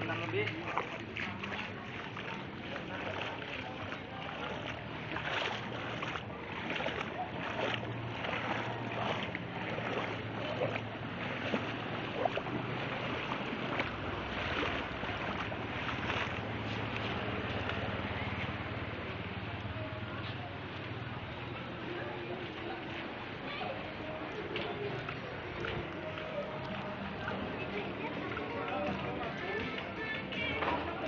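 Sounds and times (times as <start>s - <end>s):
footsteps splashing through water: 0.0s - 31.0s.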